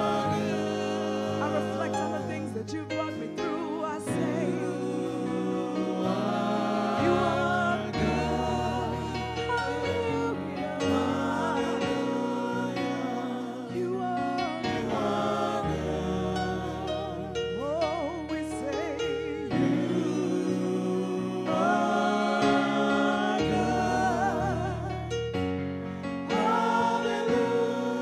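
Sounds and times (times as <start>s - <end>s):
accompaniment chords: 0.0s - 28.0s
backing singers: 0.0s - 28.0s.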